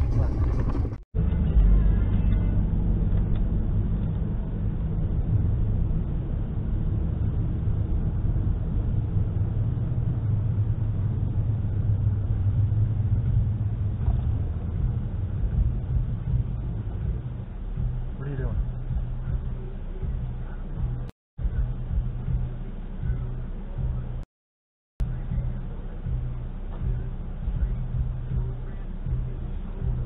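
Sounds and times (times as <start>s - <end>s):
car engine and tyre rumble: 0.0s - 24.2s, 25.0s - 30.0s.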